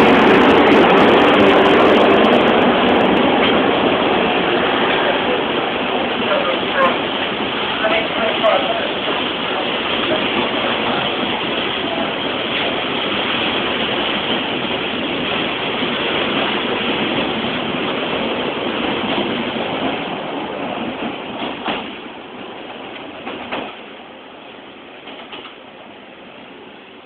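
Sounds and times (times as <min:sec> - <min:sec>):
train carriages rolling past: 0:00.0 - 0:27.0.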